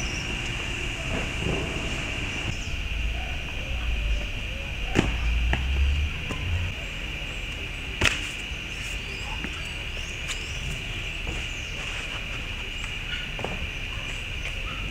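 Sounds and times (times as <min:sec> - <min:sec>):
high-pitched insect drone: 0:00.0 - 0:14.9.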